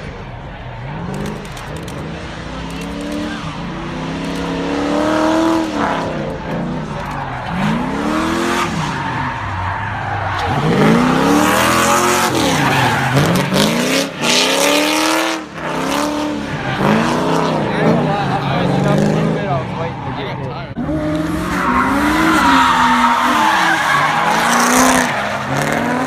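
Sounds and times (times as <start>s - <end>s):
car engine revving: 0.0s - 26.0s
tires screeching: 0.0s - 26.0s.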